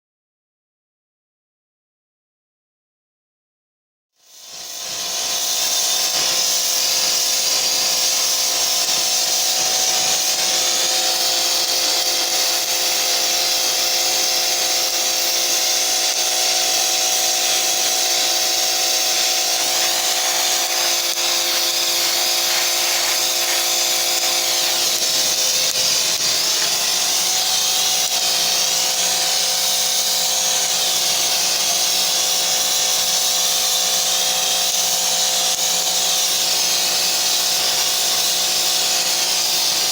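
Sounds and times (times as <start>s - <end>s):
pressure washer spray hissing: 4.3s - 39.9s.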